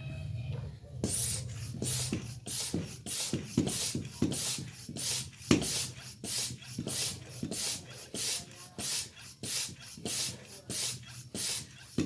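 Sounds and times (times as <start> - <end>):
hand pump hissing air: 1.0 - 12.0.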